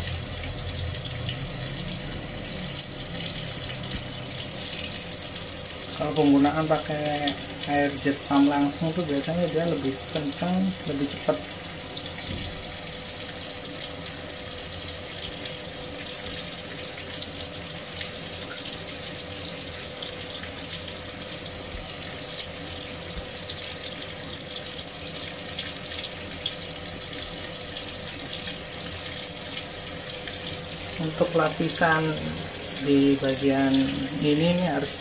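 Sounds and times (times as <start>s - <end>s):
water pouring into washing machine: 0.0s - 35.0s.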